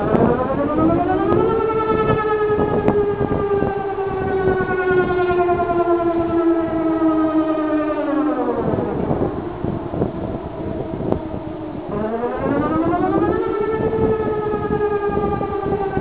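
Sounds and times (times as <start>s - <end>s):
electronic warning siren: 0.0s - 16.0s.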